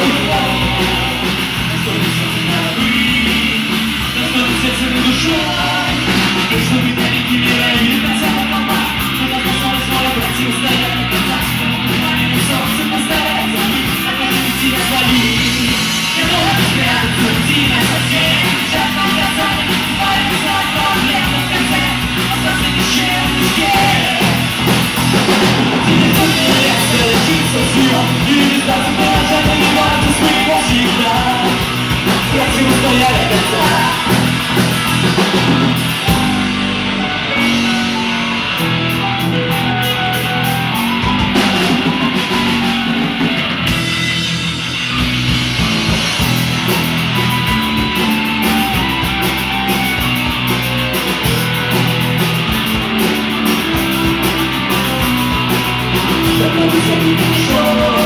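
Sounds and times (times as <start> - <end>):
person singing: 0.0 - 43.5, 53.5 - 58.0
drum kit: 0.0 - 58.0
electric guitars: 0.0 - 58.0.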